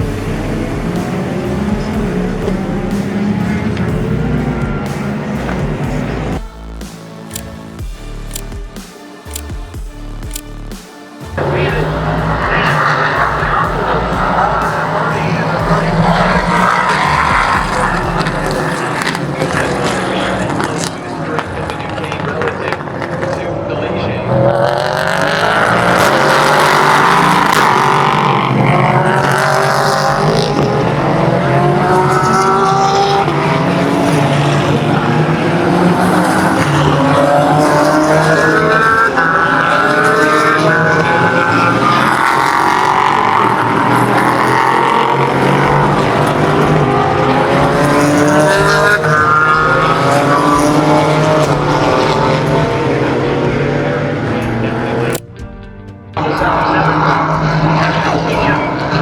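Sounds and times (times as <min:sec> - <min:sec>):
race car engines at full throttle: 0:00.0 - 0:59.0.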